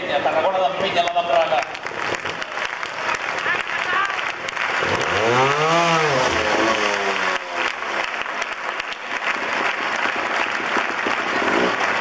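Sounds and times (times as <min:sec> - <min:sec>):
crowd applauding: 0:00.5 - 0:12.0
motorcycle engine: 0:01.8 - 0:12.0.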